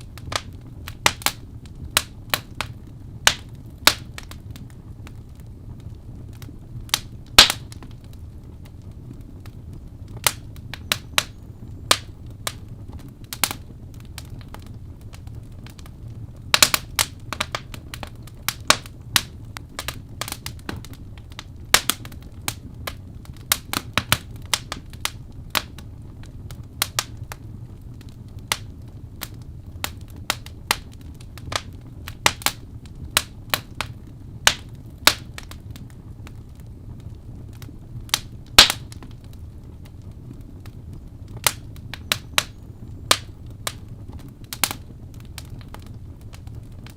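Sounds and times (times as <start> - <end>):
fire crackling and popping: 0.0 - 46.9
low rumble of flames: 0.0 - 46.9.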